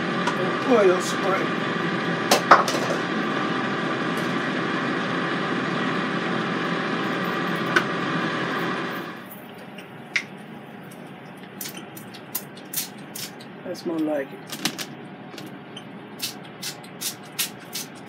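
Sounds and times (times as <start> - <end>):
air fryer fan humming: 0.0 - 18.0.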